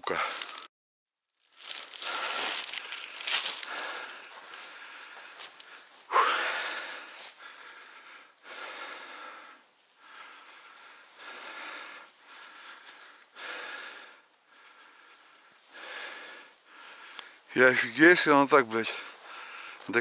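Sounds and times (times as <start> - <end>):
man breathing hard: 0.0 - 0.7, 1.6 - 17.5, 18.9 - 19.9.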